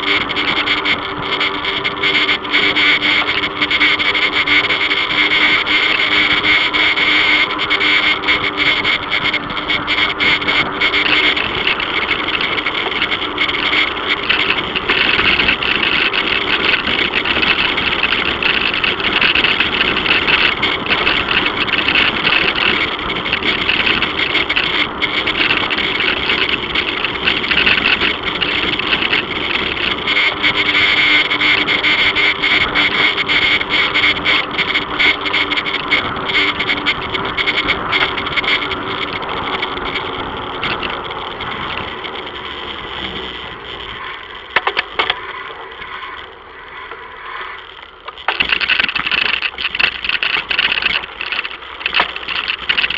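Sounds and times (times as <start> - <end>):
bicycle tyres rolling on concrete: 0.0 - 52.9
wind noise: 0.0 - 52.9.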